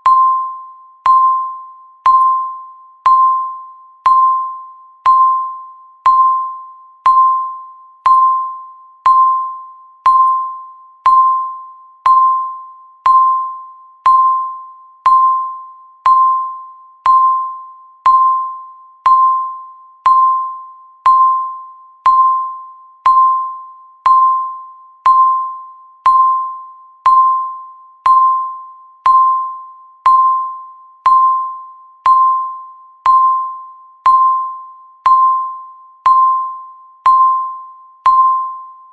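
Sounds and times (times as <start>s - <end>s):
bell-like electronic timer tone: 0.0s - 38.9s.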